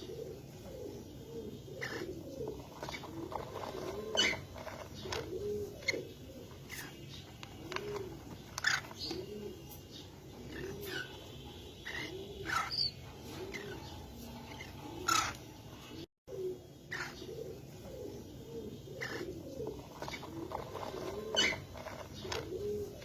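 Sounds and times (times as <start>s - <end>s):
pigeons cooing: 0.0s - 23.0s.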